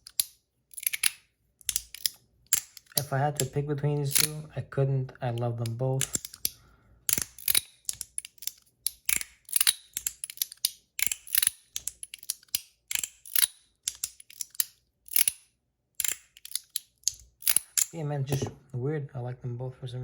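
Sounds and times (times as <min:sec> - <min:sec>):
metal fidget sliders clicking: 0:00.0 - 0:04.5, 0:05.3 - 0:18.5.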